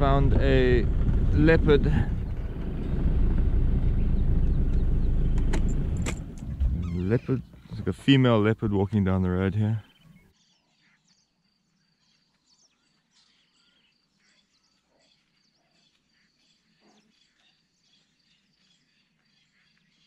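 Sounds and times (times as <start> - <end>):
bird chirps: 2.0 - 20.0.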